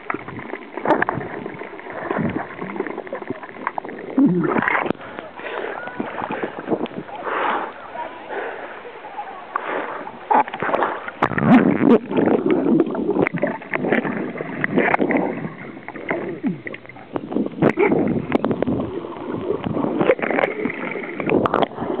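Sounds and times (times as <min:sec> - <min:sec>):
muffled underwater gurgling: 0:00.0 - 0:22.0
seawater splashing and sloshing: 0:00.0 - 0:22.0.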